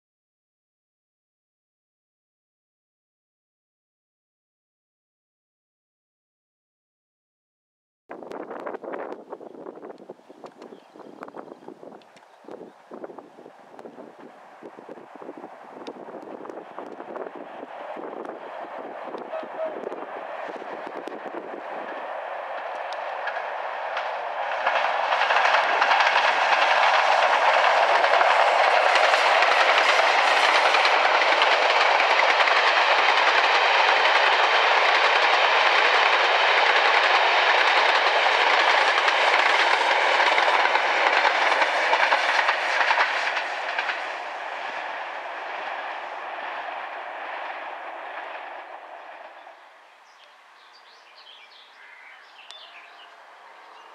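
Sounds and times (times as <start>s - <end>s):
train wheels on rails: 8.2s - 53.9s.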